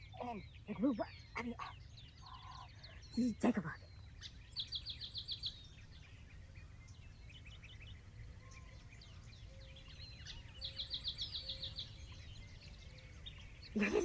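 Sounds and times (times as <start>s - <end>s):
bird chirps: 0.0s - 14.0s.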